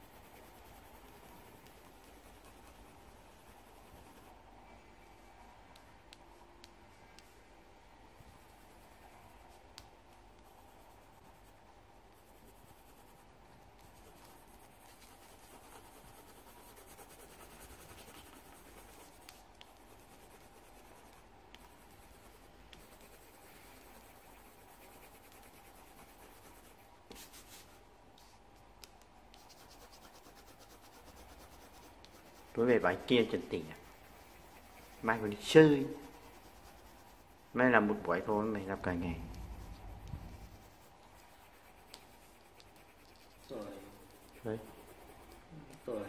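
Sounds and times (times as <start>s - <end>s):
pencil scratching on paper: 0.0s - 4.4s, 8.2s - 28.4s, 29.3s - 46.0s
faint steady hum: 0.0s - 46.0s.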